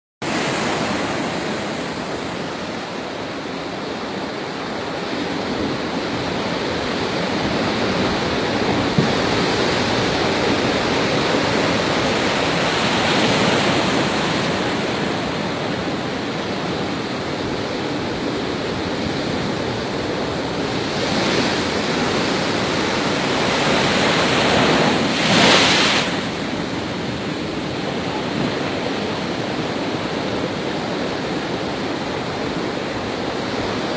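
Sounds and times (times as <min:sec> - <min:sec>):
sea surf rushing: 0:00.2 - 0:33.9.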